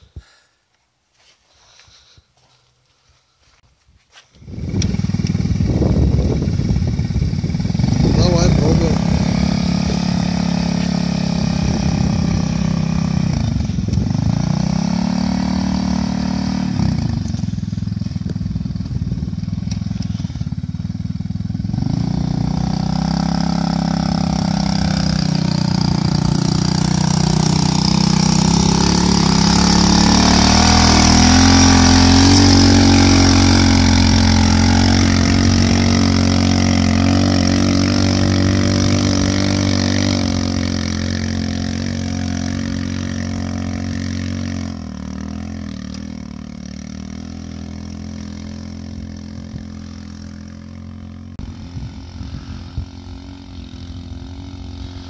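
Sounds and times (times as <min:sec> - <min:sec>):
motorcycle engine revving: 0:04.4 - 0:55.0.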